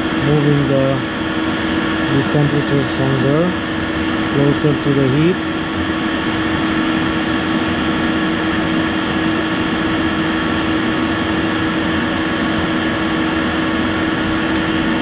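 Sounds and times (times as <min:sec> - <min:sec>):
air heater whirring: 0:00.0 - 0:15.0.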